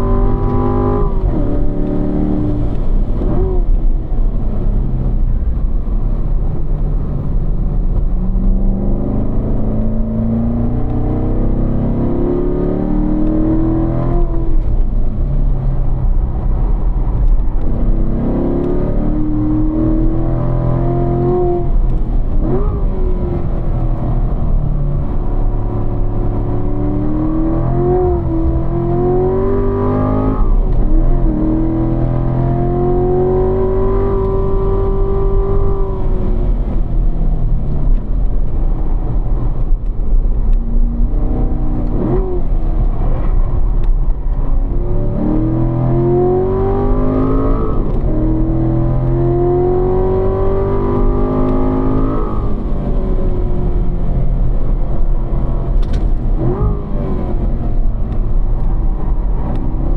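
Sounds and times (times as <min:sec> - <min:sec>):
car engine revving under acceleration: 0:00.0 - 0:59.9.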